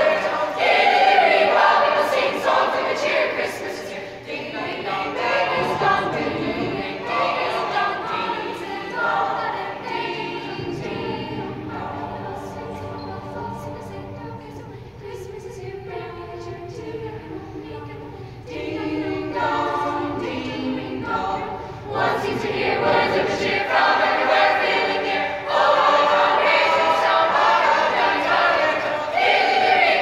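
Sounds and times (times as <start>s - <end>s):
youth choir singing a cappella: 0.0s - 30.0s.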